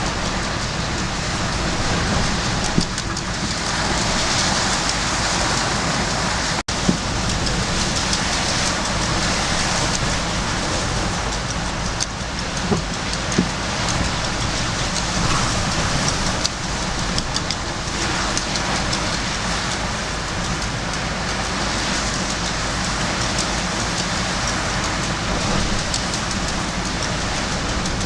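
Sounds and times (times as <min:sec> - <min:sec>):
gale wind buffeting microphone: 0:00.0 - 0:28.0.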